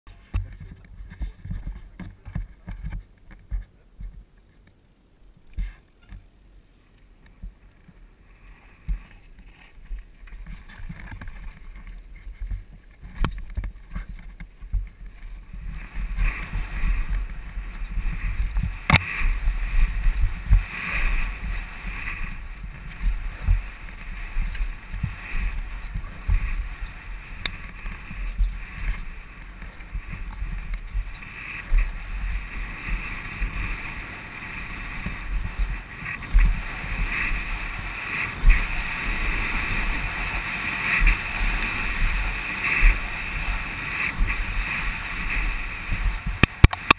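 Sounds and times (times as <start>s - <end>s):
wind on microphone: 0.1s - 4.6s, 7.2s - 46.9s
bike knocking and rattling: 0.1s - 46.9s
bike tyre noise: 0.1s - 46.9s.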